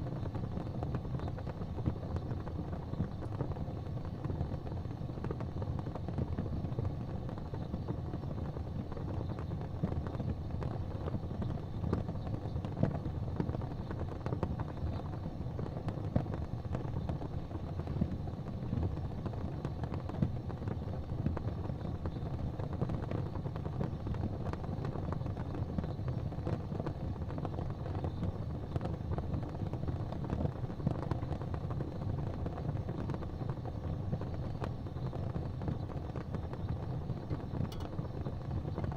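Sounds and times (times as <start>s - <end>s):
low fire rumble: 0.0s - 38.9s
wood fire crackling: 0.0s - 38.9s.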